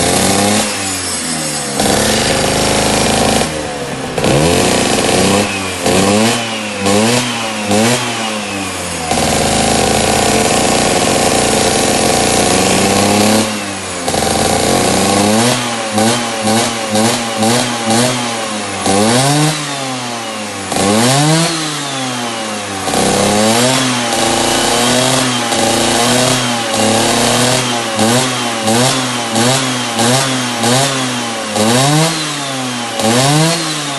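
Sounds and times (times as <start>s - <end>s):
small engine revving: 0.0s - 33.9s.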